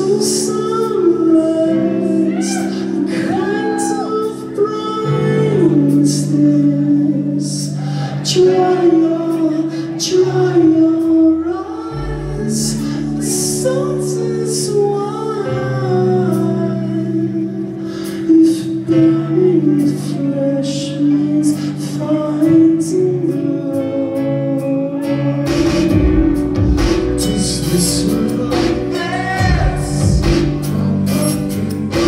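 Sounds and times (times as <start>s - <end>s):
person singing: 0.0s - 32.0s
rock band playing live: 0.0s - 32.0s.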